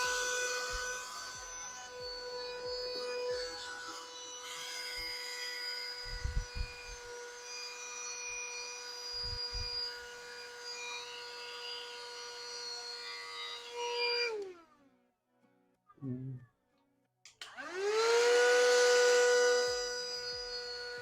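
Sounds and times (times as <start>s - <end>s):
handheld vacuum cleaner whine: 0.0s - 14.8s, 17.4s - 21.0s.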